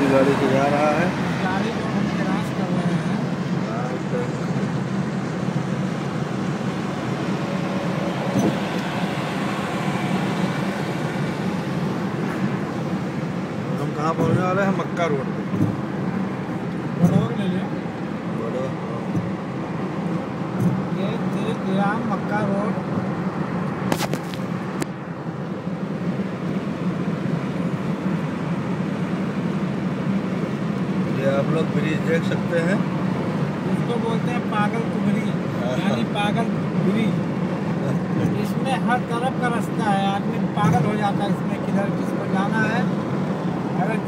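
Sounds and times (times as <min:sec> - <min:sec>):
car cabin road and engine noise: 0:00.0 - 0:44.0.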